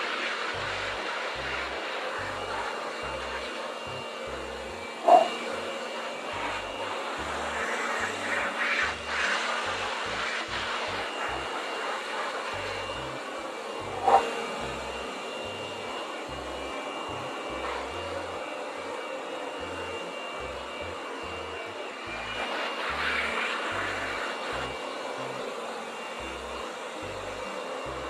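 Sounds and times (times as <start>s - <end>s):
electric blower whining: 0.0s - 28.0s.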